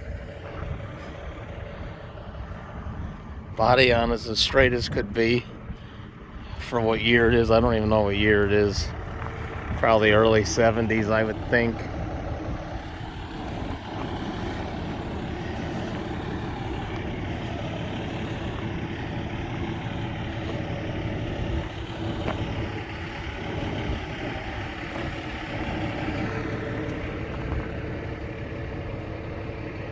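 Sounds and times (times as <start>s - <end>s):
engine idling: 0.0s - 29.9s.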